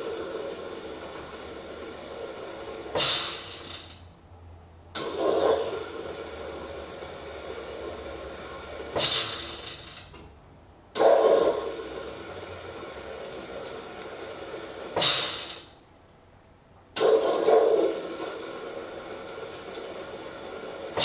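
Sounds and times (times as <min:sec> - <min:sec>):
milk foamer flushing water: 0:00.0 - 0:04.0, 0:05.0 - 0:10.1, 0:11.0 - 0:15.8, 0:17.0 - 0:21.0.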